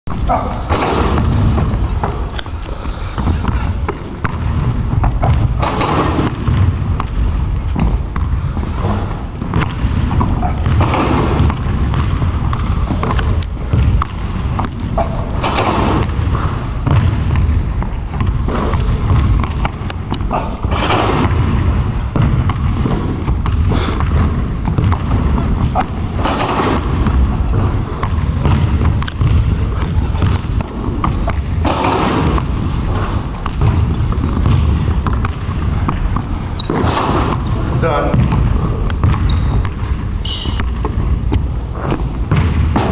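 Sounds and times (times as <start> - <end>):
steady low rumble: 0.0 - 42.9
basketballs bouncing on wooden floor: 0.1 - 42.9.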